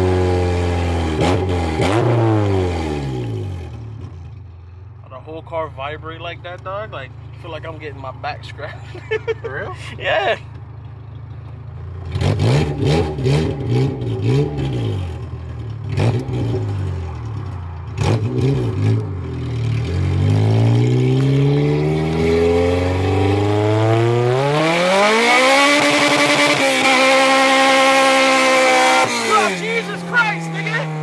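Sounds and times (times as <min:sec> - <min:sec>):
car engine revving: 0:00.0 - 0:04.7, 0:05.7 - 0:31.0.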